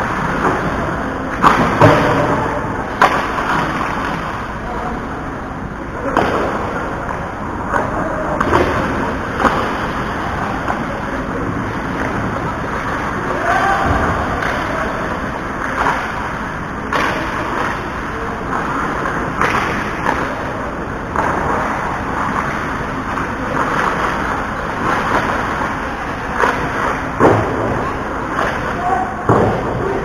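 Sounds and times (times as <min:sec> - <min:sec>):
hockey sticks and puck clacking: 0:00.0 - 0:04.4, 0:06.0 - 0:30.0.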